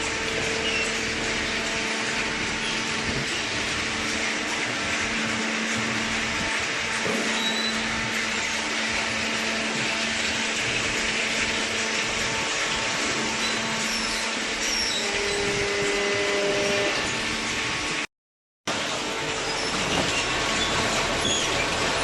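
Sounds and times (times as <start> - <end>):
baling machine motor hum: 0.0 - 18.0.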